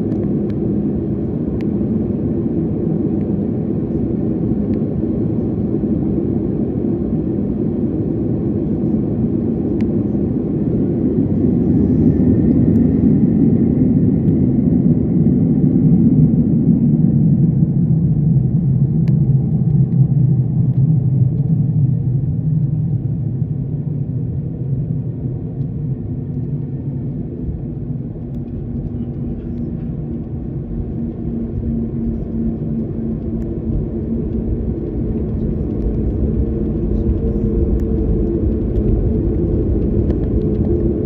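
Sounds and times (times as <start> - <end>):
faint hum: 0.0 - 41.0
jet cabin engine rumble: 0.0 - 41.0.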